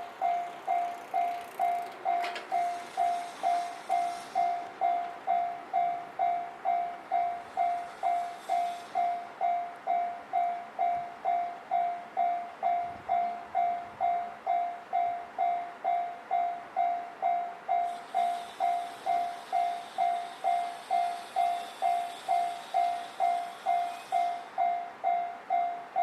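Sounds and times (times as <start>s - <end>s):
level-crossing warning bell ringing: 0.0s - 26.0s.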